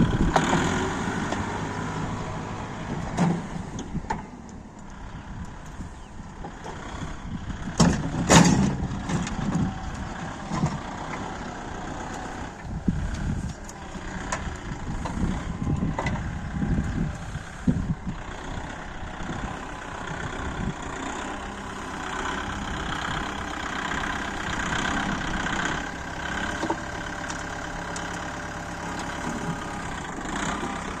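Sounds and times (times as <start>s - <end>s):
low thuds of front loader: 0.0s - 31.0s
tractor engine running: 0.0s - 31.0s.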